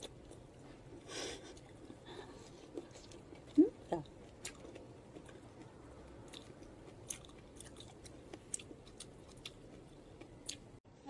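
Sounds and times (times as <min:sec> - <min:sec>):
person chewing greens: 0:00.0 - 0:10.8.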